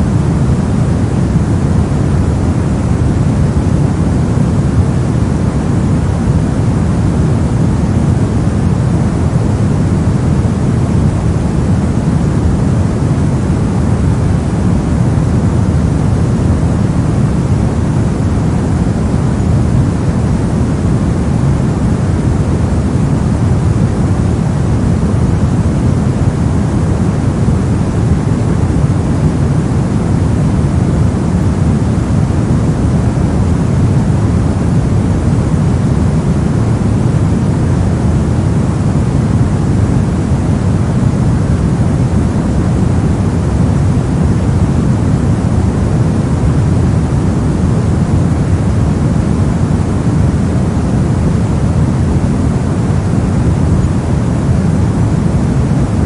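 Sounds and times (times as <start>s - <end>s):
brown noise: 0.0s - 56.0s.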